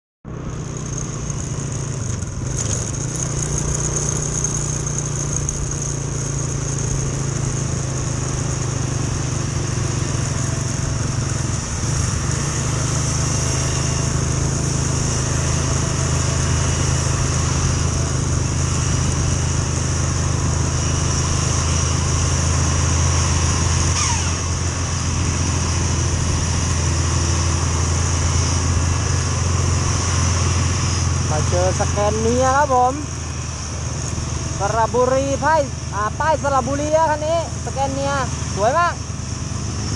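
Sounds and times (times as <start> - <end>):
wind and road noise: 0.2 - 39.9
coach diesel engine: 0.3 - 39.9.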